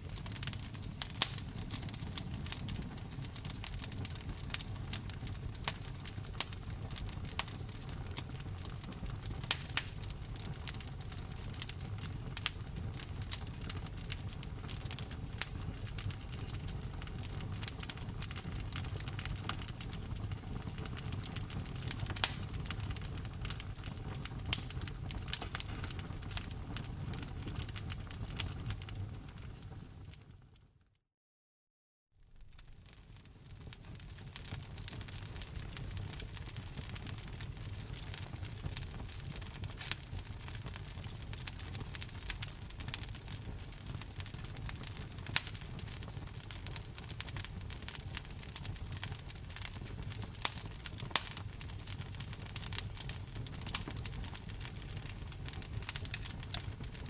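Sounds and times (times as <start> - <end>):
low rumble of flames: 0.0 - 30.4, 32.2 - 57.0
wood fire crackling and popping: 0.0 - 30.4, 32.3 - 57.0.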